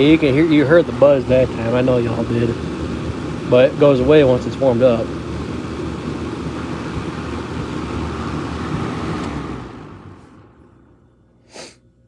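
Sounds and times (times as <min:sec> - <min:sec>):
box fan running: 0:00.0 - 0:11.7.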